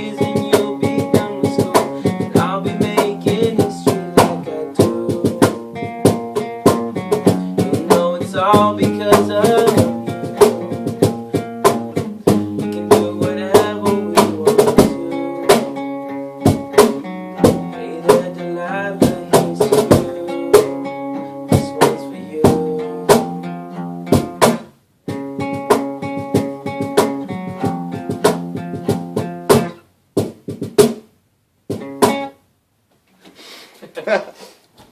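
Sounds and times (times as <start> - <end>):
acoustic guitar: 0.0 - 32.4
drums keeping a steady beat: 0.0 - 32.4.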